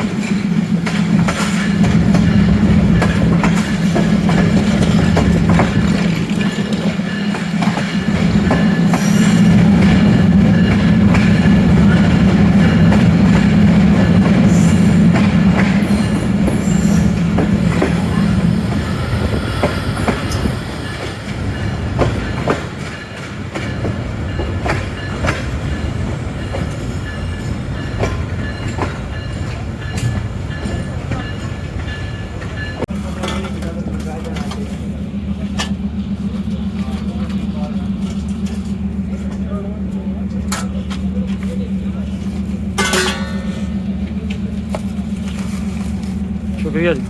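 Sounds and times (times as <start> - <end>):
train wheels clicking over rail joints: 0.0 - 47.0.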